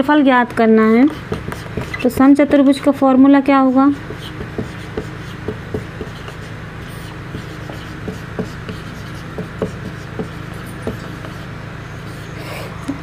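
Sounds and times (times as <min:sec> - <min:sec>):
marker scratching on whiteboard: 0:00.0 - 0:03.0, 0:03.6 - 0:12.4
steady low hum: 0:00.0 - 0:13.0.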